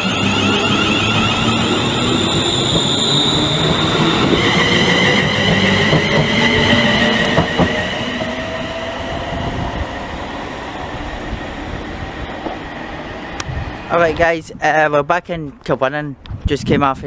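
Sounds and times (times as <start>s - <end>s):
high-pitched whining tones: 0.0s - 14.2s
low whine: 0.0s - 14.3s
electric train rumbling: 0.0s - 14.8s.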